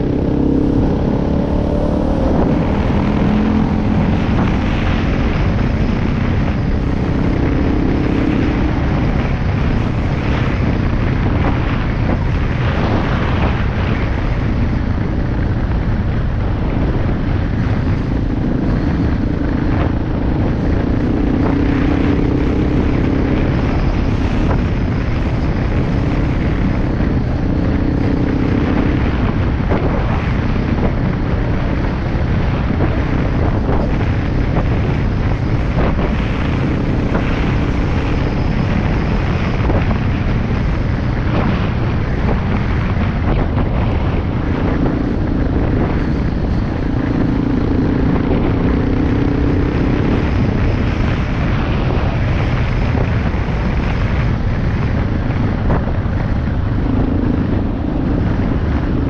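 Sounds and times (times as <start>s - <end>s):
vehicle engine and tyre rumble: 0.0s - 59.0s
wind noise: 0.0s - 59.0s.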